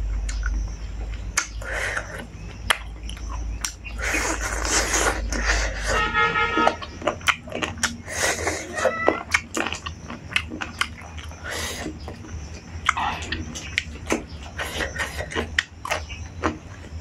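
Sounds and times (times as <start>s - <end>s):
wet chewing and crunching: 0.0s - 17.0s.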